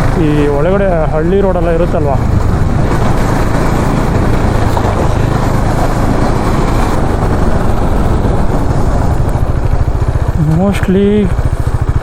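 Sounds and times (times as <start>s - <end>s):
motorcycle cruising: 0.0s - 12.0s
road noise rushing: 0.0s - 12.0s.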